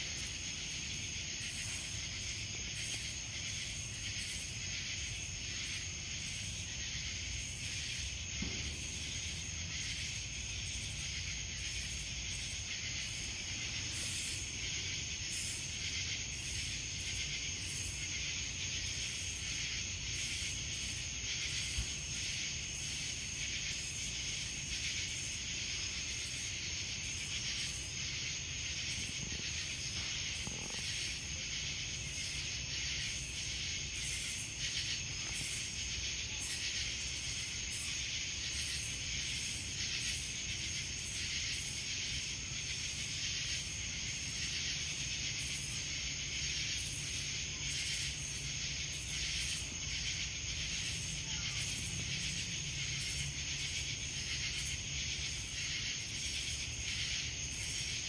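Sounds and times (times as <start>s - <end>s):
cicadas chorusing: 0.0s - 58.0s.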